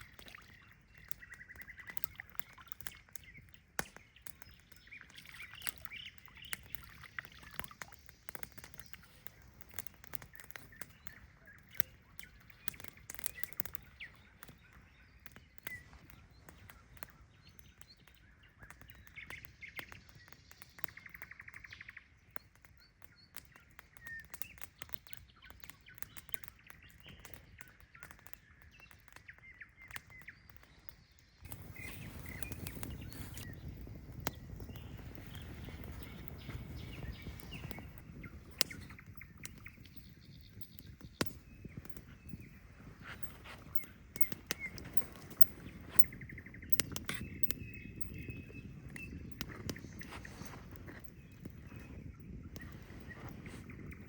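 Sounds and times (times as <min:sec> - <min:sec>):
small clicks: 0:00.0 - 0:14.6, 0:22.4 - 0:54.0
small birds chirping: 0:00.0 - 0:54.0.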